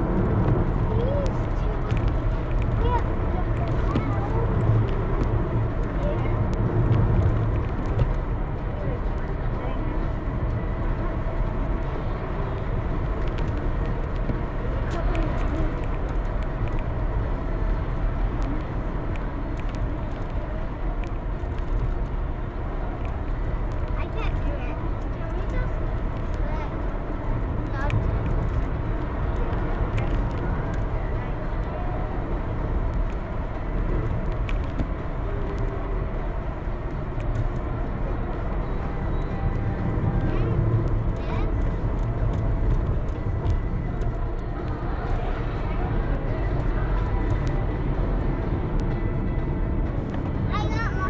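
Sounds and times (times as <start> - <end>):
engine and road noise: 0.0 - 51.0.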